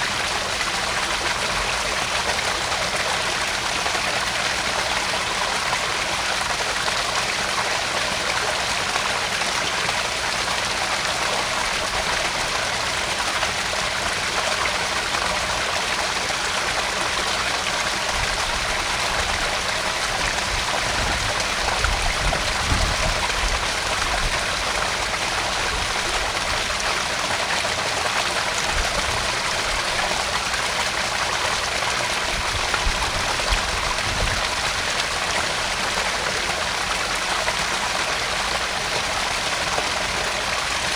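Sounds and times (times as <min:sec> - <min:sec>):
pond waterfall splashing: 0:00.0 - 0:40.9.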